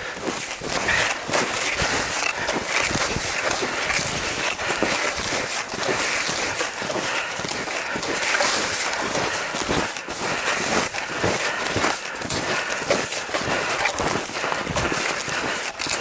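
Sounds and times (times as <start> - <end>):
footsteps crunching in snow: 0.0 - 16.0.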